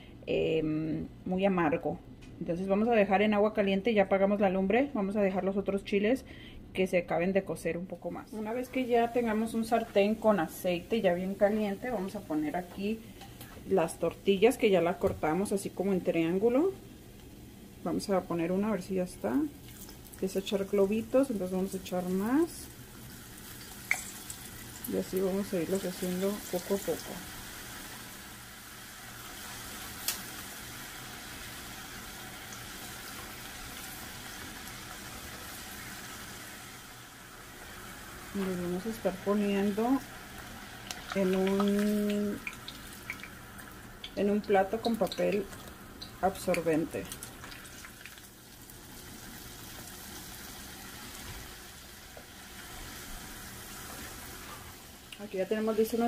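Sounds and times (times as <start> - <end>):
food frying in hot oil: 8.4 - 56.0.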